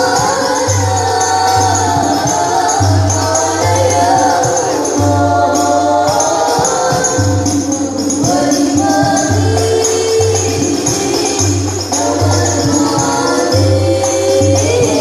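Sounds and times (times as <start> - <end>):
frame drums: 0.0 - 15.0
jingling tambourine: 0.0 - 15.0
voices singing a melody: 0.0 - 15.0.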